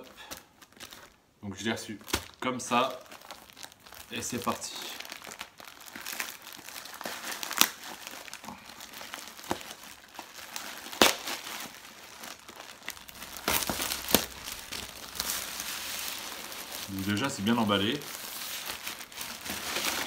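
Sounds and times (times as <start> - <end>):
plastic bag crinkling: 0.0 - 20.0
plastic ripping cracks: 2.0 - 20.0.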